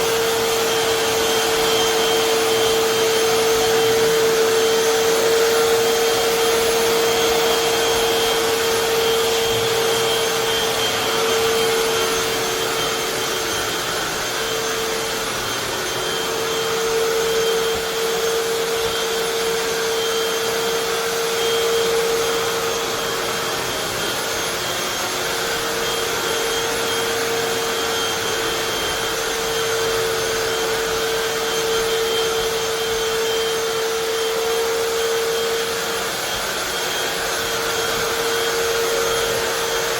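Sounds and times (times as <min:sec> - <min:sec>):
floor cleaner motor whine: 0:00.0 - 0:39.9.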